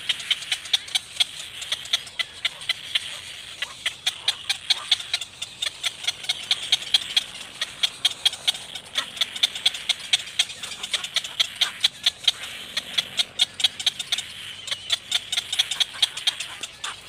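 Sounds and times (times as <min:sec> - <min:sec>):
chicks chirping: 0:00.0 - 0:17.0.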